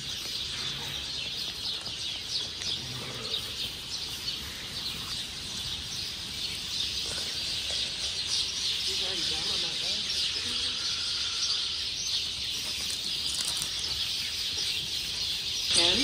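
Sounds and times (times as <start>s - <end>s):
birds chirping in chorus: 0.0s - 16.0s.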